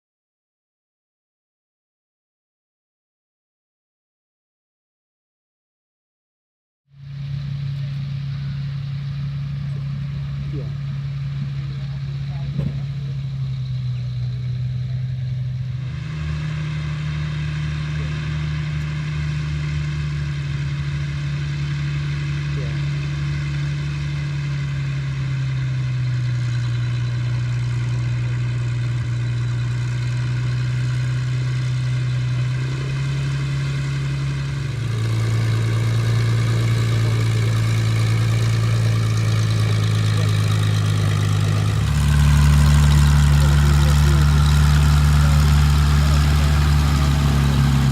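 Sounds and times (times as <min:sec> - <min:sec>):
aircraft piston engine running: 0:07.0 - 0:47.9.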